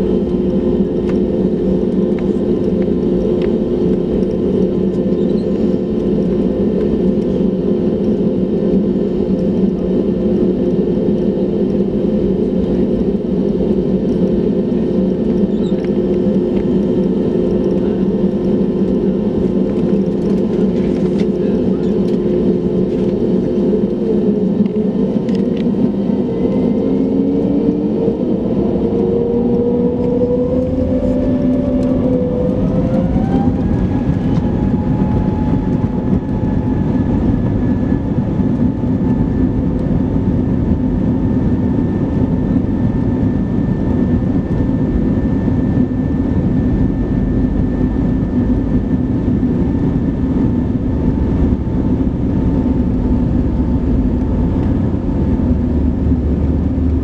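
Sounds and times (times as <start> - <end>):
jet engines whining: 0.0 - 57.0
wheels rumbling on runway: 0.0 - 57.0.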